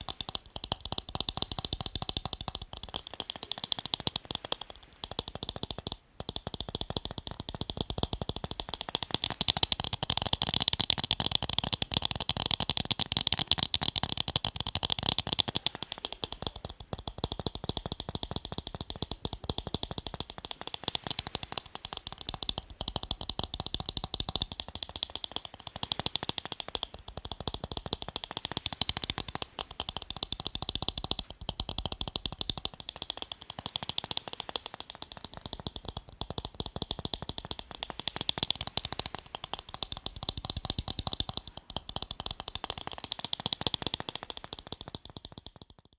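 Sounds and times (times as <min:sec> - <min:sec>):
fingernail tapping on eyeglasses: 0:00.0 - 0:45.9.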